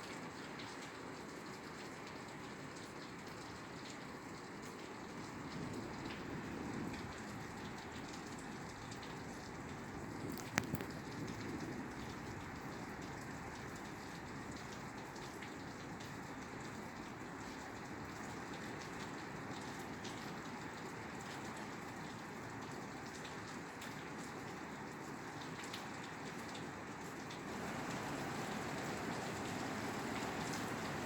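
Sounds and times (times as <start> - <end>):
rain falling on a roof: 0.0 - 31.0.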